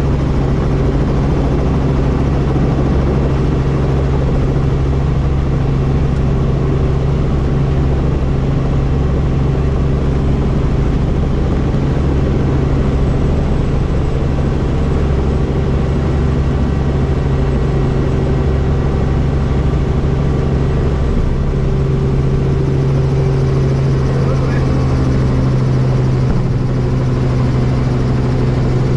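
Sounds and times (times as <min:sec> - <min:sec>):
helicopter rotor and turbine drone: 0:00.0 - 0:28.9.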